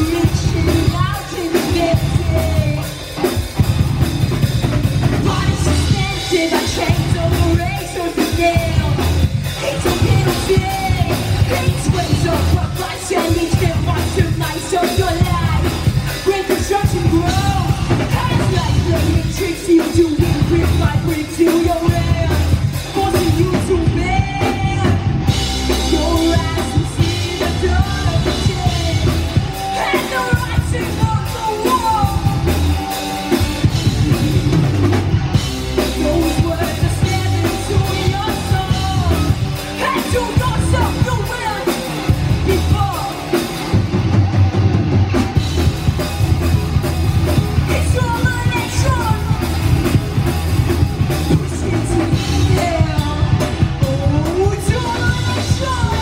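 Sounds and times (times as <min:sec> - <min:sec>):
woman singing: 0:00.0 - 0:03.3, 0:05.1 - 0:33.0, 0:35.8 - 0:43.4, 0:47.6 - 0:49.5, 0:51.3 - 0:56.0
bass guitar: 0:00.0 - 0:56.0
drum kit: 0:00.0 - 0:56.0
electric guitar: 0:00.0 - 0:56.0.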